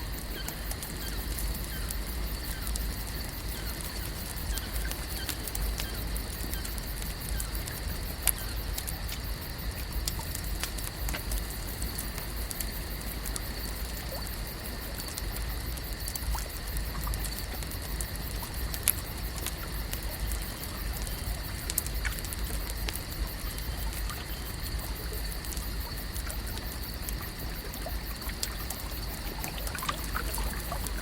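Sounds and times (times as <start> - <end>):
small patters and ticks: 0.0 - 31.0.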